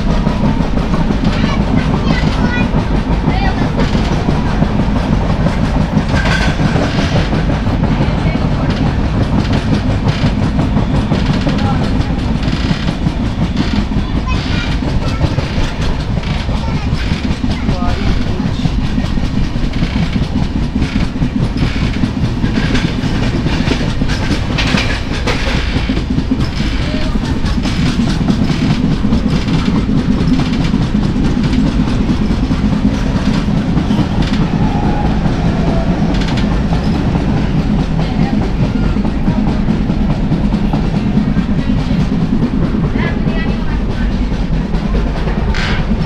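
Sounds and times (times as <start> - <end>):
train rumble: 0.0 - 46.0
wheels clattering over rail joints: 0.0 - 46.0.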